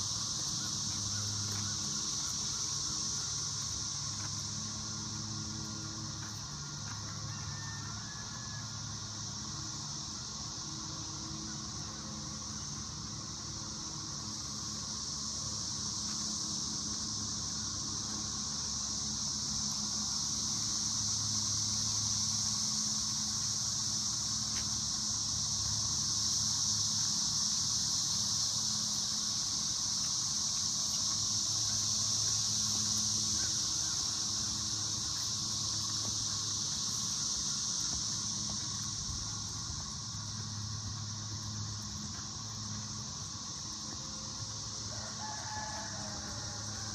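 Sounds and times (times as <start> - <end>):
insect chorus droning: 0.0 - 46.9.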